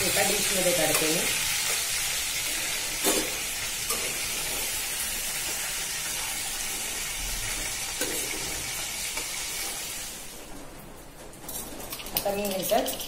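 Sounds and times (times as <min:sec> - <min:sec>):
hot oil sizzling: 0:00.0 - 0:10.5.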